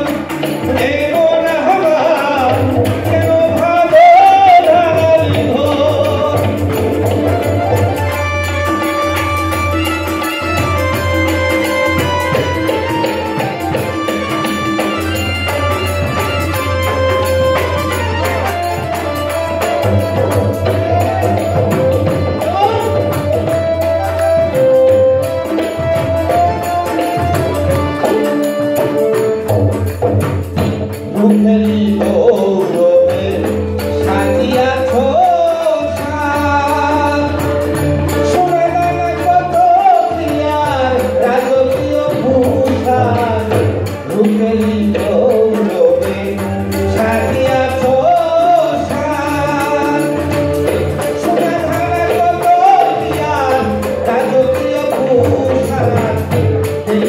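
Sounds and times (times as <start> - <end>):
man singing into a microphone: 0.0 - 29.6, 30.6 - 57.0
drum beat: 0.0 - 57.0
harmonium: 0.0 - 57.0.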